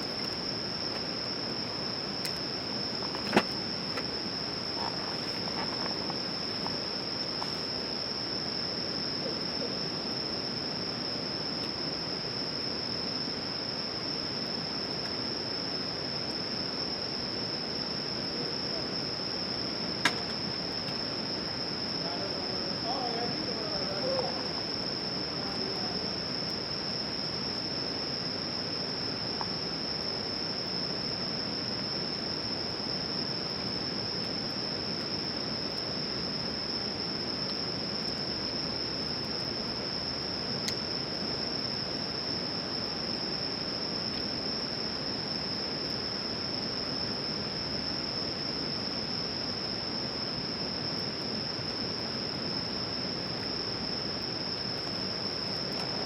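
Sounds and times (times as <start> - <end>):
background hiss: 0.0 - 56.0
insects trilling: 0.0 - 56.0.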